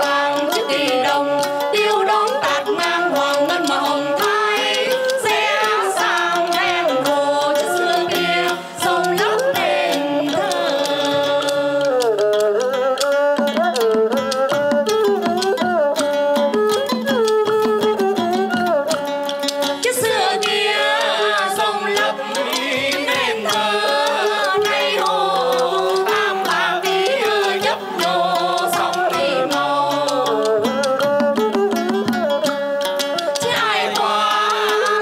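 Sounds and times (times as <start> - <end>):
people singing folk song: 0.0 - 12.8, 19.4 - 35.0
plucked lute and fiddle: 0.0 - 35.0
wooden clappers ticking: 0.0 - 35.0.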